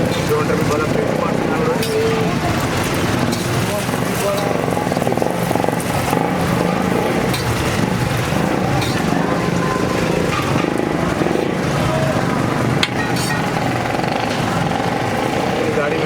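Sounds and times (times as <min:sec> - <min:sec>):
engine-like rumble: 0:00.0 - 0:16.0.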